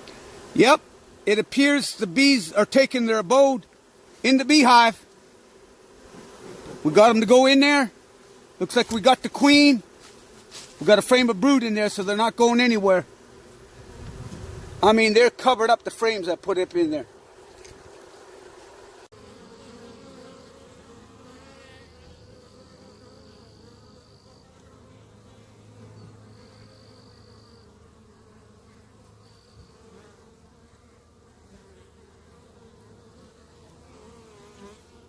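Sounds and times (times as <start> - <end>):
bee swarm droning hum: 0.0 - 35.0.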